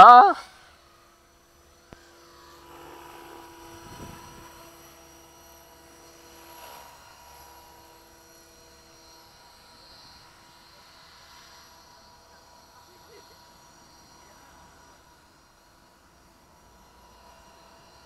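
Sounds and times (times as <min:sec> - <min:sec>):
model helicopter whine: 0:00.0 - 0:18.0.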